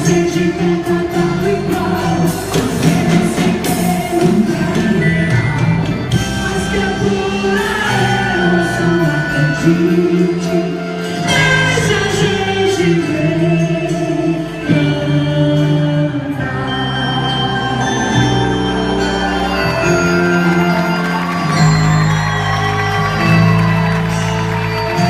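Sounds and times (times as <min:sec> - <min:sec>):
choir-like singing with instruments: 0:00.0 - 0:25.0.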